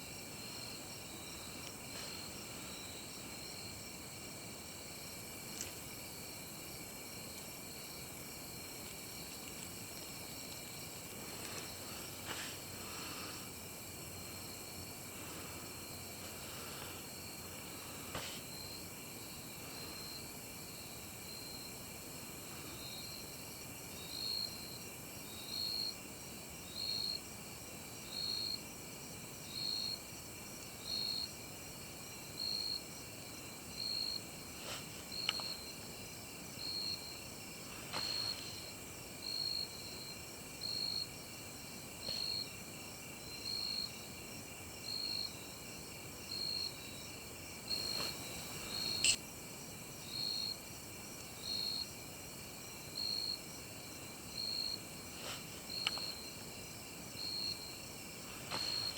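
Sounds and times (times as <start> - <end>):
crickets trilling: 0.0 - 58.9
insect chirp: 0.0 - 58.9.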